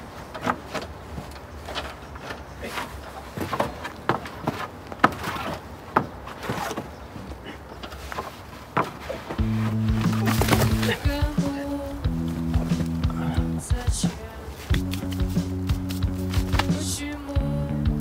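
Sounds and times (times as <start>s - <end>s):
wooden fence creaking and knocking: 0.0s - 17.7s
shoes scuffing on boards: 0.4s - 7.0s, 7.9s - 13.1s, 14.0s - 16.9s.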